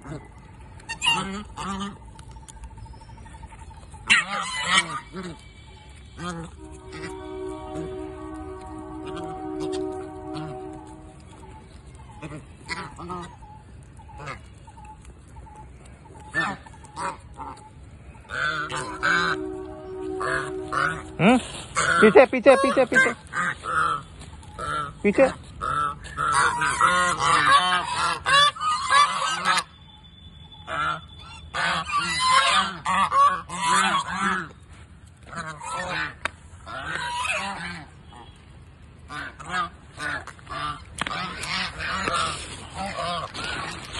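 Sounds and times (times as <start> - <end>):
ducks quacking: 0.0 - 2.4, 3.2 - 29.7, 30.7 - 34.6, 35.2 - 38.4, 39.0 - 43.9
geese honking: 0.0 - 29.8, 30.5 - 34.6, 35.2 - 43.9
ducks peeping softly: 0.0 - 43.9.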